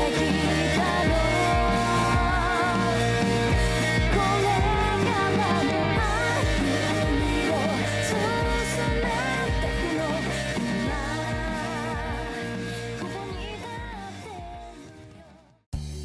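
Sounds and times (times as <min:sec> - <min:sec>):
steady drum beat: 0:00.0 - 0:14.7
pop-rock song with vocals: 0:00.0 - 0:16.0.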